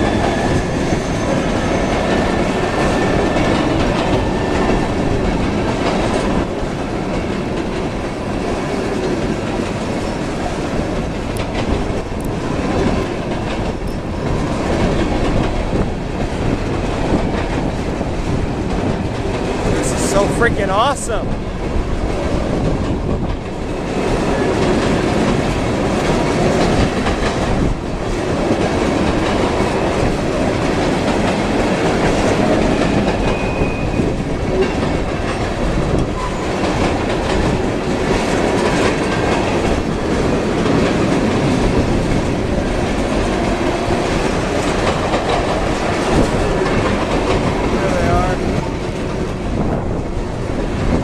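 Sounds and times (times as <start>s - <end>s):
wheels clacking over rail joints: 0.0s - 20.2s, 20.8s - 51.0s
freight train rumbling past: 0.0s - 51.0s.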